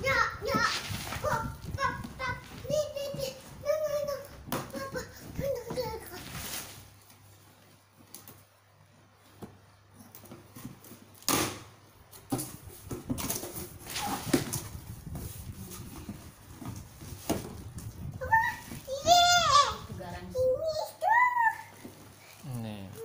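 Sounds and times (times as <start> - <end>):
rustling cardboard and plastic: 0.0 - 8.5, 9.2 - 23.0.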